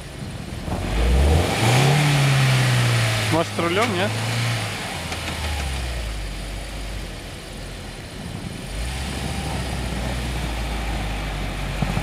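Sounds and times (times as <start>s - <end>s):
car engine revving under load: 0.1s - 12.0s.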